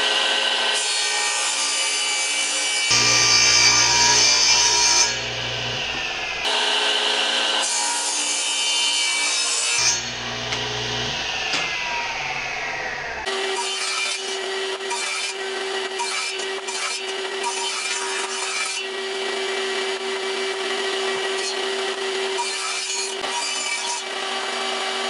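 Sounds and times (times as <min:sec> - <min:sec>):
table saw cutting wood: 0:00.0 - 0:25.0.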